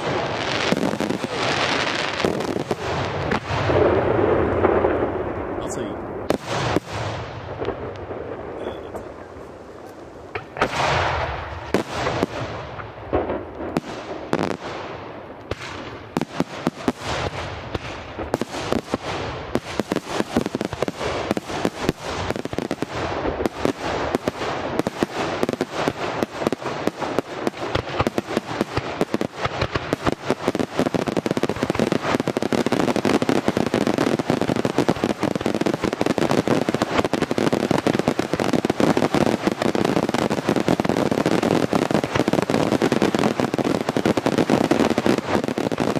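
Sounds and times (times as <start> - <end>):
fireworks banging: 0.0 - 45.9.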